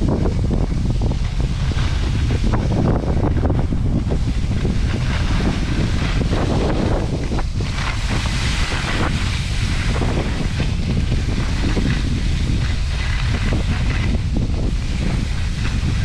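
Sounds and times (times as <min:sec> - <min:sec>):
skis sliding on snow: 0:00.0 - 0:16.0
wind buffeting microphone: 0:00.0 - 0:16.0.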